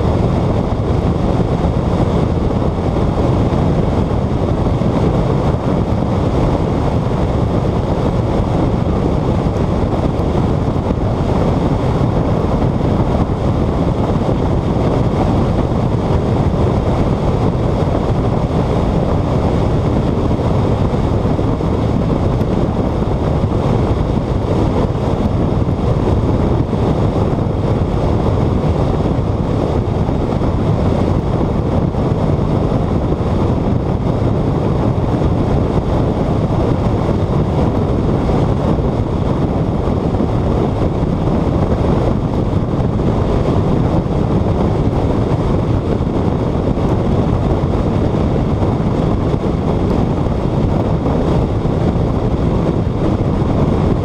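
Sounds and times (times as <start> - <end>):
car road and engine noise: 0.0 - 54.0
wind buffeting microphone: 0.0 - 54.0.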